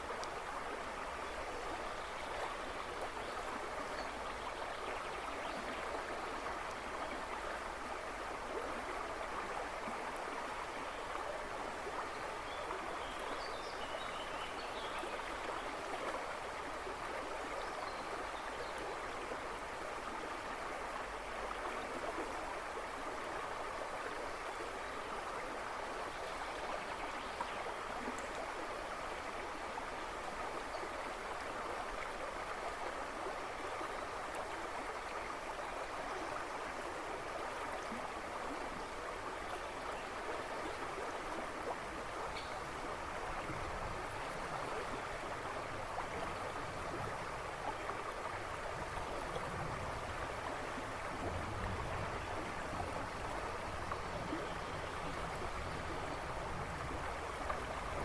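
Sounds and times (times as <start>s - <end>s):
river rushing and babbling: 0.0s - 58.0s.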